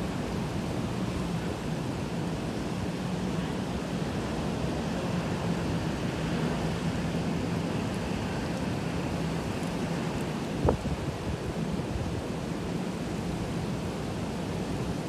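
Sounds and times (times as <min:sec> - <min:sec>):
gusty wind: 0:00.0 - 0:15.0
heavy rain: 0:00.0 - 0:15.0.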